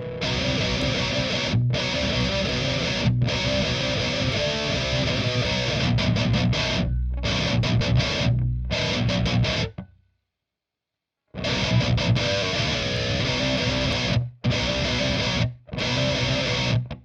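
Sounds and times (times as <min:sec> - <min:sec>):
distorted electric guitar riffs: 0:00.0 - 0:10.0, 0:11.3 - 0:17.0.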